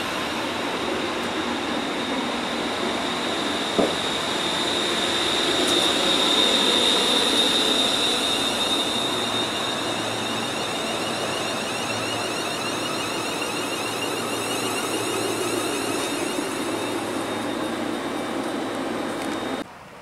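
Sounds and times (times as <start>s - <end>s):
high whine: 0.0s - 19.6s
train wheel and traction rumble: 0.0s - 19.7s.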